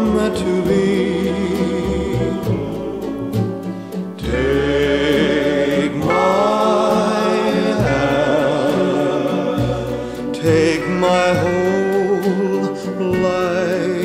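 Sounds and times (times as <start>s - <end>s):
slow ballad with singer: 0.0s - 14.0s.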